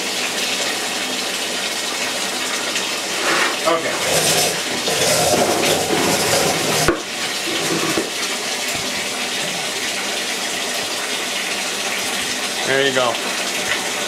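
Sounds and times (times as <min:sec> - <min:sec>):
water running through a pump hose: 0:00.0 - 0:14.0.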